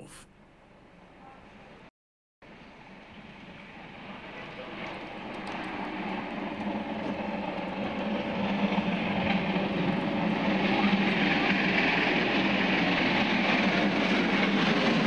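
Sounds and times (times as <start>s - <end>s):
steam locomotive rumbling past: 2.5s - 15.0s.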